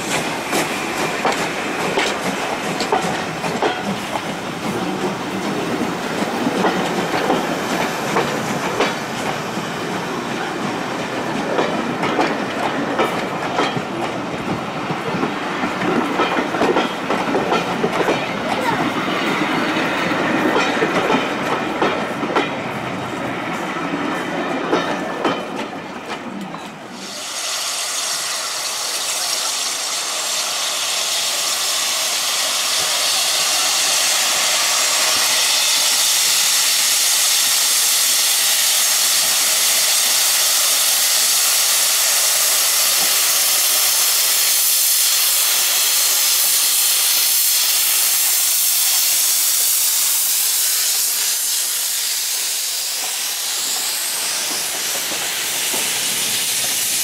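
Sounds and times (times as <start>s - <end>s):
steam hissing: 0.0s - 25.3s, 26.6s - 57.0s.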